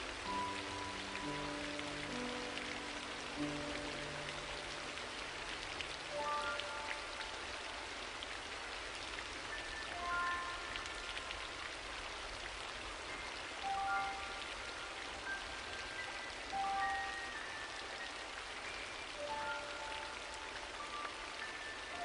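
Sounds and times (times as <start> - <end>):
crackling rain-like hiss: 0.0 - 22.0.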